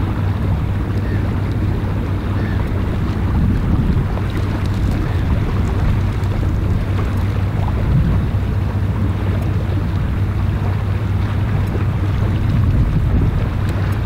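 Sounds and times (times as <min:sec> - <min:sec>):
boat engines droning: 0:00.0 - 0:14.0
wind noise on microphone: 0:00.0 - 0:14.0.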